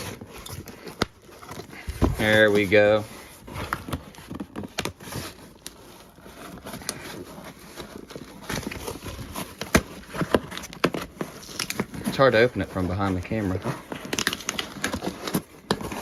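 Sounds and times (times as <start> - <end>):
cardboard box being opened: 0.0 - 16.0.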